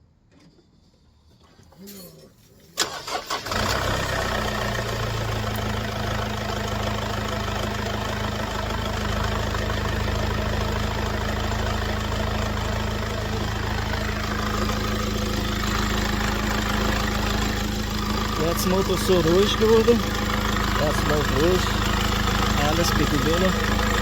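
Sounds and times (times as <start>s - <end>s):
car engine idling: 2.8s - 24.0s.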